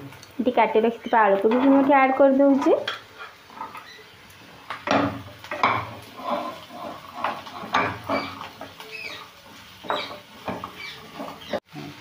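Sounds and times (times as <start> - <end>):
spatula scraping potatoes in a pan: 1.4 - 12.0.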